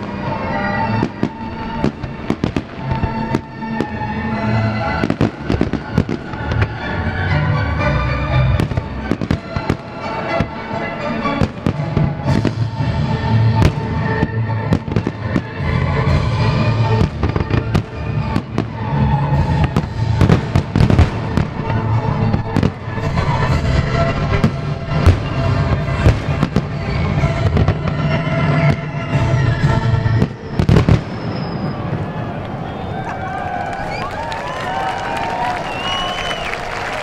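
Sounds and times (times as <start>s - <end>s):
fireworks bursting: 0.0s - 7.0s, 8.5s - 33.2s
music playing: 0.0s - 32.4s
constant low boom: 0.0s - 33.0s.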